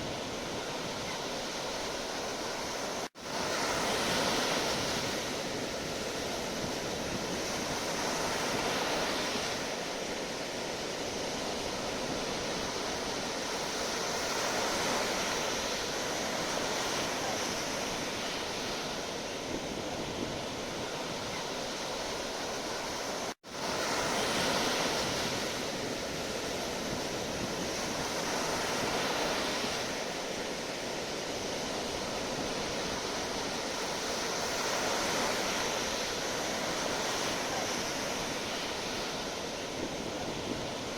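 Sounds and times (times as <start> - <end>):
sea waves washing ashore: 0.0 - 40.9.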